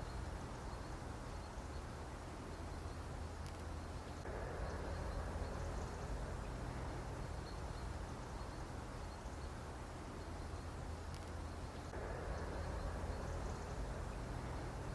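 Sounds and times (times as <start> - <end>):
low background hum: 0.0 - 14.9.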